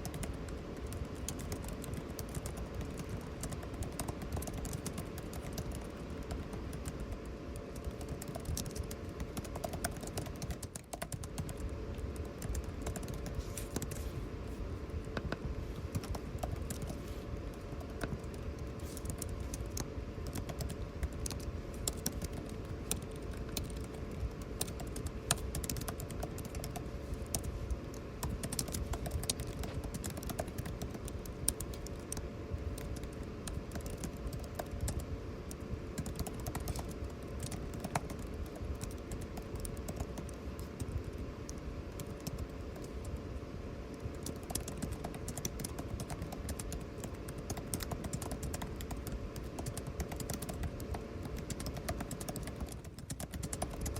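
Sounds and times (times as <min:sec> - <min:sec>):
air conditioning hum: 0:00.0 - 0:53.9.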